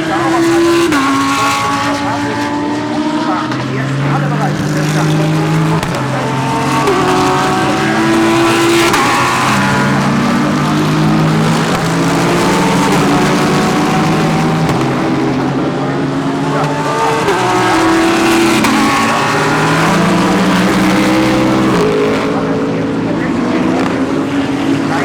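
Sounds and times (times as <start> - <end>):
race car engines braking and accelerating: 0.0 - 25.0.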